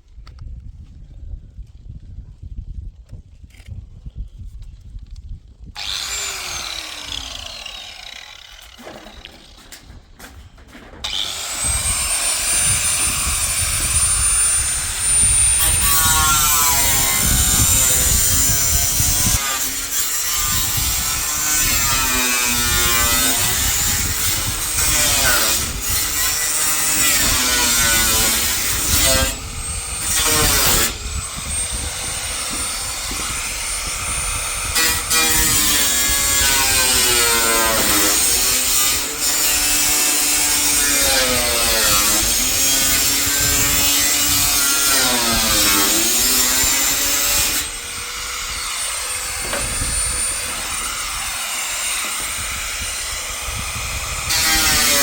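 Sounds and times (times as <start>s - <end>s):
gritty cutting noise: 5.7s - 55.0s.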